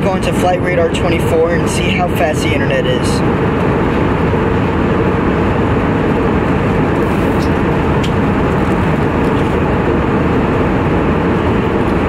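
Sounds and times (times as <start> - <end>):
airliner cabin roar: 0.0 - 12.0
faint steady hum: 0.0 - 12.0.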